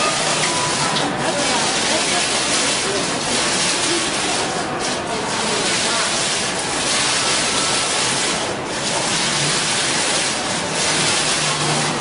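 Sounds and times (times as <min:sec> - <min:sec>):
fountain water splashing into basin: 0:00.0 - 0:12.0.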